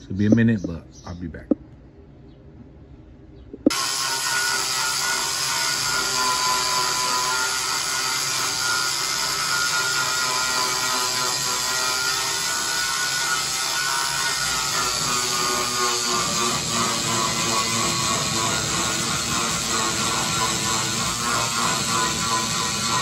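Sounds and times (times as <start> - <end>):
power grinder grinding steel: 3.7 - 23.0.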